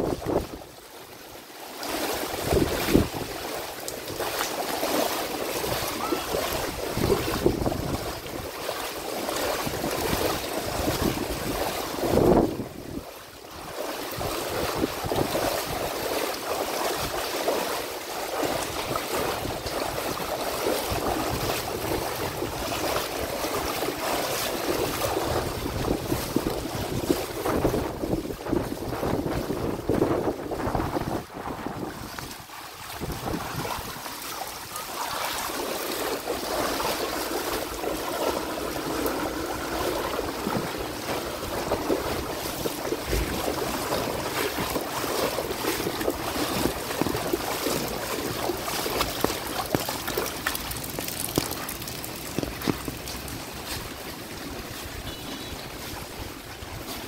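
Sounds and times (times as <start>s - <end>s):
wind buffeting microphone: 0.0s - 0.7s, 2.3s - 4.4s, 5.4s - 16.2s, 18.3s - 34.2s, 35.8s - 57.0s
floodwater rushing and sloshing: 0.0s - 57.0s.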